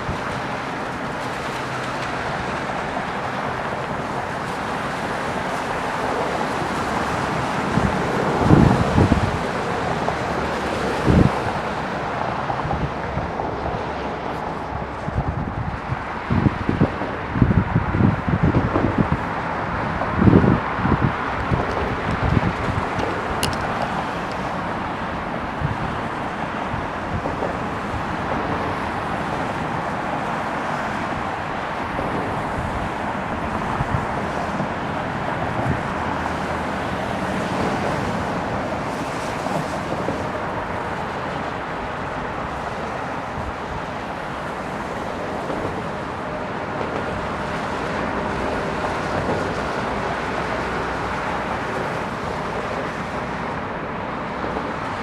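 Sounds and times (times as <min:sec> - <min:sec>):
distant jet engines rushing: 0:00.0 - 0:55.0
wind on microphone: 0:00.0 - 0:55.0.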